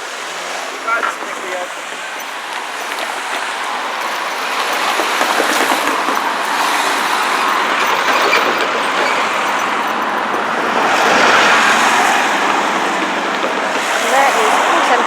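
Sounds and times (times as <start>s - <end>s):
vehicle noise: 0.0s - 15.0s.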